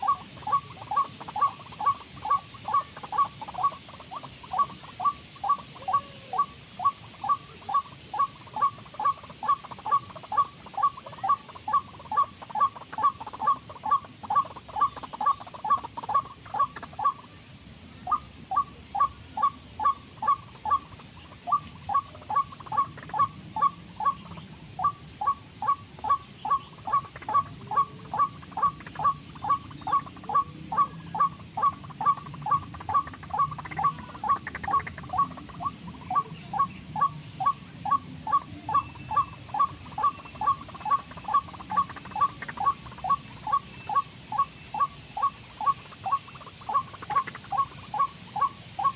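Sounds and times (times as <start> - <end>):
bird lure call: 0.0 - 17.4, 18.0 - 48.9.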